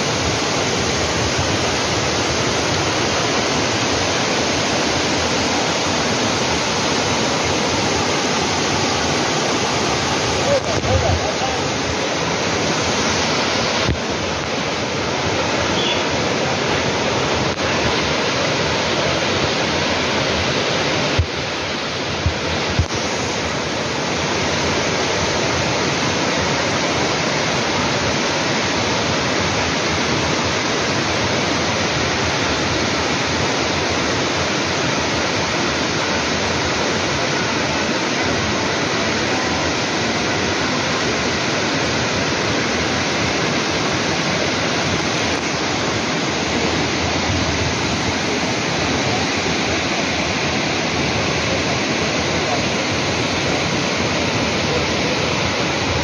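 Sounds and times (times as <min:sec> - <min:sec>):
waterfall and river rushing: 0:00.0 - 0:56.0.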